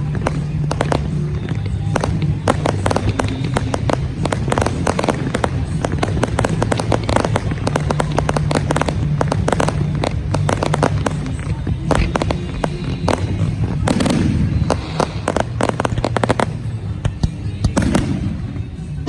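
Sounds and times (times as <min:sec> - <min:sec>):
fireworks launching and bursting: 0:00.0 - 0:19.0.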